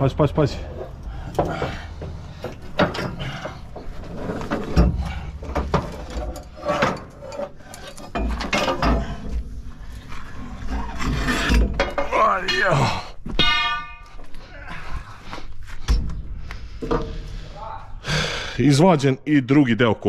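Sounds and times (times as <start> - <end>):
metal clanking and scraping: 0.4 - 15.0, 15.7 - 17.5.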